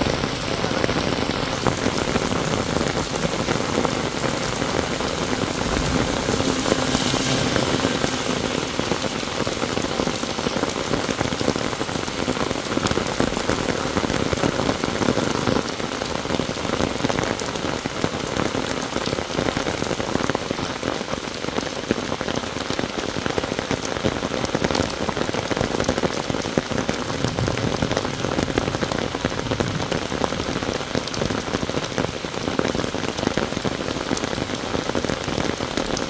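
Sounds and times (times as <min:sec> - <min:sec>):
heavy rain on pavement: 0:00.0 - 0:36.0.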